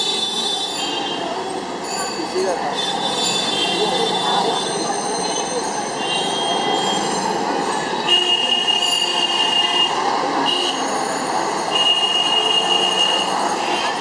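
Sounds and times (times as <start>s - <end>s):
high squeal from cycle rickshaw: 0.0s - 14.0s
rolling and street noise: 0.0s - 14.0s.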